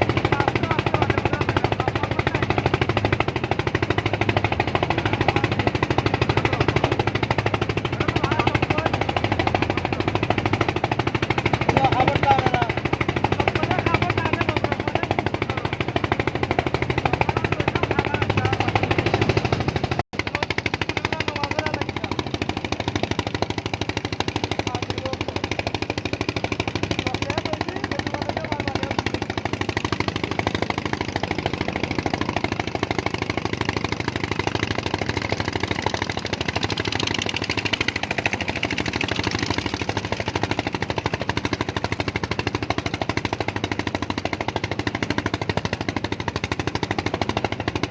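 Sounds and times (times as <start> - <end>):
engine chugging: 0.0 - 47.9.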